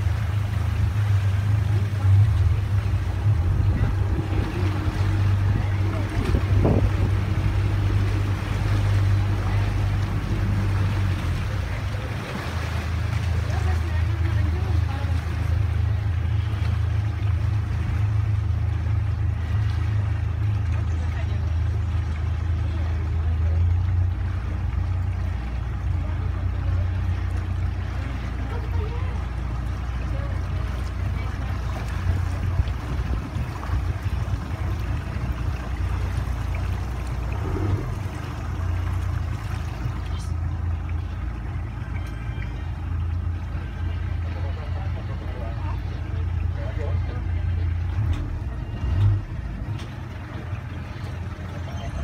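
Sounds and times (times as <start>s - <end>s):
boat engine droning: 0.0s - 52.0s
water rushing: 0.0s - 52.0s
wind: 0.0s - 52.0s.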